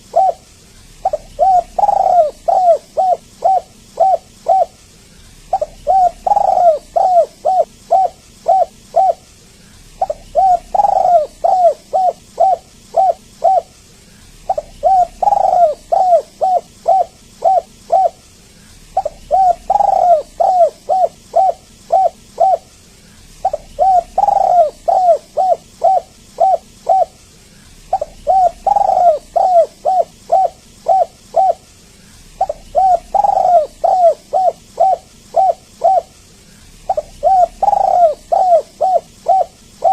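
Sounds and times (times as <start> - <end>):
dove cooing: 0.0 - 4.8, 5.4 - 9.3, 9.9 - 13.8, 14.4 - 27.2, 27.8 - 39.9.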